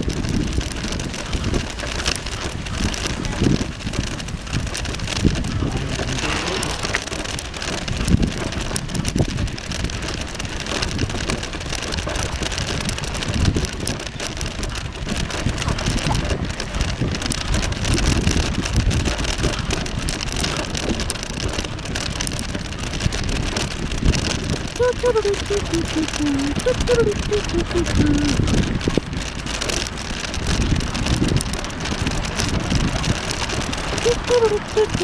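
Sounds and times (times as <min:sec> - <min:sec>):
bicycle tyres crunching on dirt: 0:00.0 - 0:24.8, 0:28.4 - 0:34.0
bike rattling: 0:00.0 - 0:24.9, 0:27.9 - 0:34.4
wind buffeting microphone: 0:00.0 - 0:35.0.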